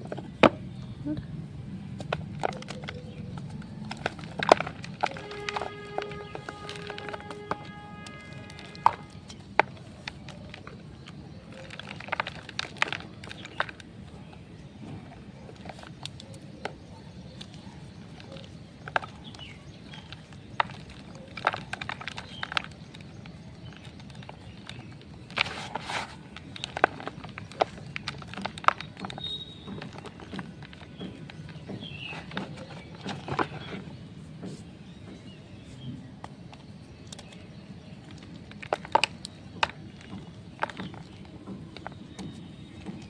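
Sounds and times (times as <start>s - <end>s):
chalk blocks being crunched: 1.2s - 43.0s.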